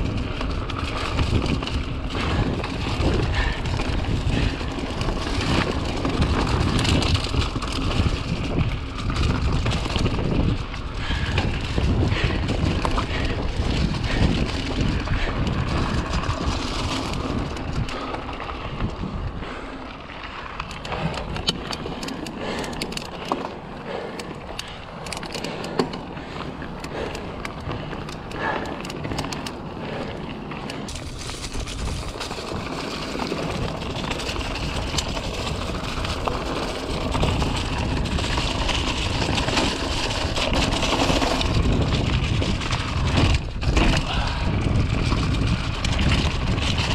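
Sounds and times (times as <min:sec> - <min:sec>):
bike rattling: 0:00.0 - 0:46.9
bike tyre noise: 0:00.0 - 0:46.9
wind buffeting microphone: 0:00.0 - 0:46.9.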